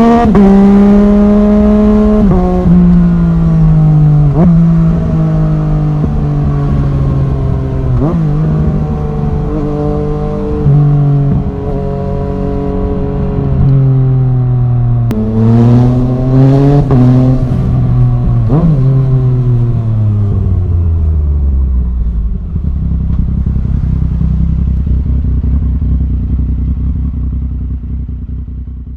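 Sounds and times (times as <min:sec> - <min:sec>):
motorcycle engine revving and idling: 0:00.0 - 0:28.9.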